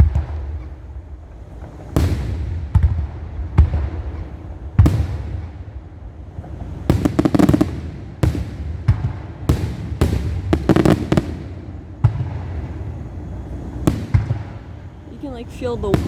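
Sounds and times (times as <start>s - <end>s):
firework shells booming: 0.0s - 16.0s.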